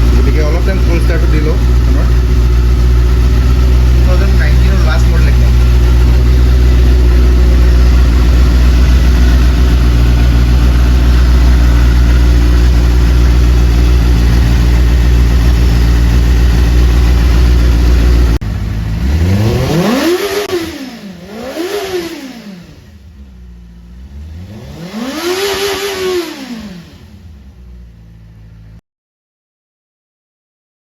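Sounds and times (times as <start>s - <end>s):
throttle blips revving engine: 0.0s - 27.7s
motorcycle engine idling: 0.0s - 28.8s.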